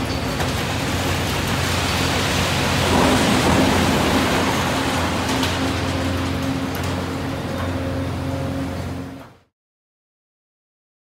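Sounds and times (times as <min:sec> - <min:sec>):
debris rumbling and crunching: 0:00.0 - 0:09.0
excavator engine hum: 0:00.0 - 0:09.5.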